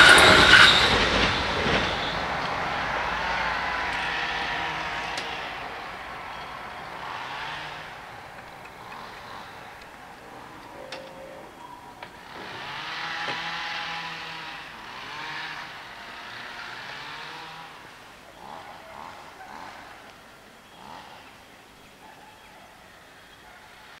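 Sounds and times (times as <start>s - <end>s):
vehicle passing by: 0.0s - 21.6s.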